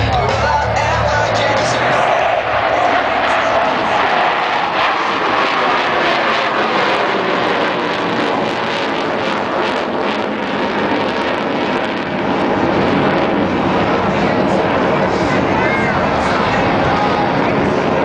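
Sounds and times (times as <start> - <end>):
jet aircraft flying overhead: 0.0 - 18.0.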